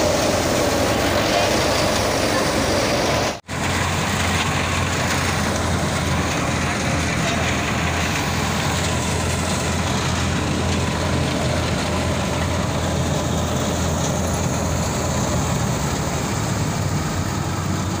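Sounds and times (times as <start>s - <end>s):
thresher machine hum and rush: 0.0s - 18.0s.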